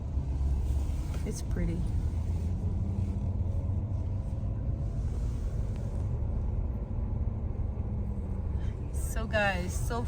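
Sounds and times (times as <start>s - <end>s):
car driving rumble: 0.0s - 10.0s
faint engine hum: 0.0s - 10.0s.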